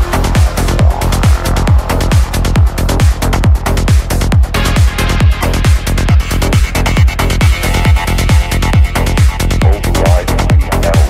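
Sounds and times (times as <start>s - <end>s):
kick drum: 0.0s - 11.0s
sustained synth pads: 0.0s - 11.0s
trance music: 0.0s - 11.0s.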